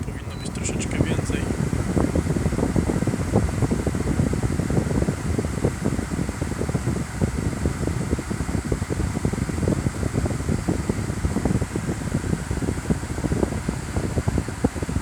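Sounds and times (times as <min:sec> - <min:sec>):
air conditioner fan blowing: 0:00.0 - 0:15.0.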